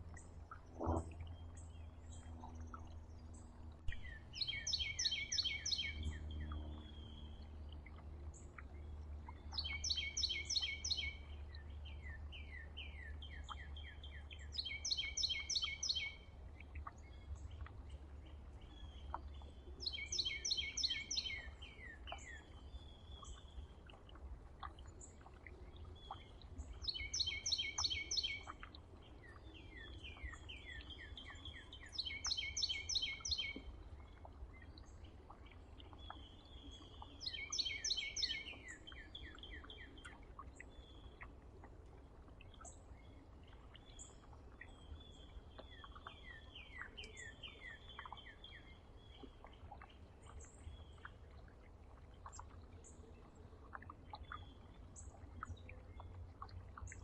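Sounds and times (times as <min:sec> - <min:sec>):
low steady rumble: 0:00.0 - 0:57.0
songbird singing: 0:00.0 - 0:57.0.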